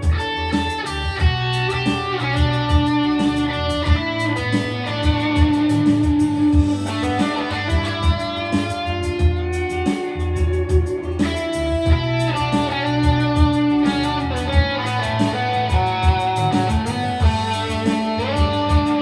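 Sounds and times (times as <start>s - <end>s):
bass line: 0.0s - 19.0s
electric guitar music: 0.0s - 19.0s
steady drum beat: 0.0s - 19.0s.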